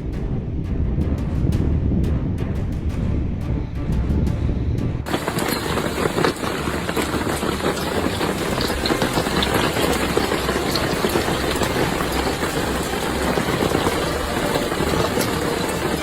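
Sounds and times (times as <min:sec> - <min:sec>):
low rumble: 0:00.0 - 0:15.9
heavy hail drumming: 0:00.0 - 0:16.0.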